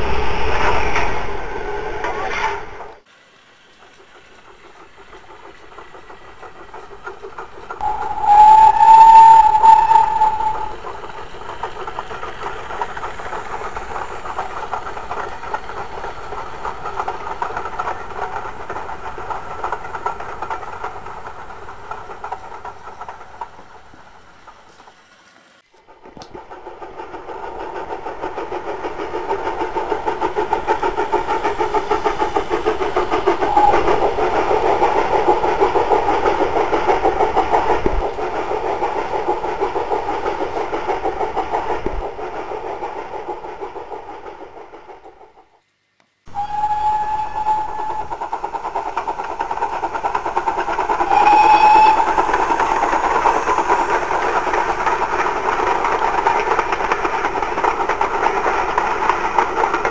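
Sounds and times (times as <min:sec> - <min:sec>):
model train rumbling on track: 0:00.0 - 0:59.9.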